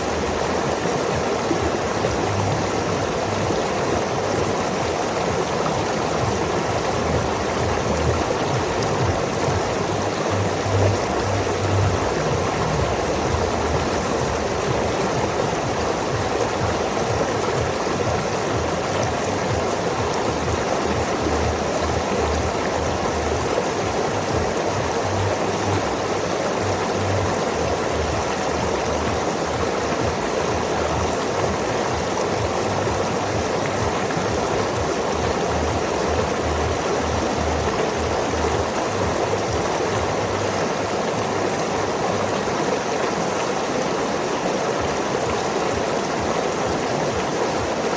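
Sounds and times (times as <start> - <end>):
water rushing over waterfall: 0.0 - 47.9.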